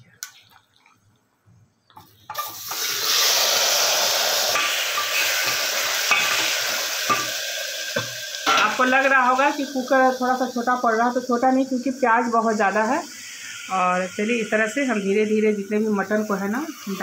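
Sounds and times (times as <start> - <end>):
loud steady sizzle in hot oil: 2.3 - 17.0.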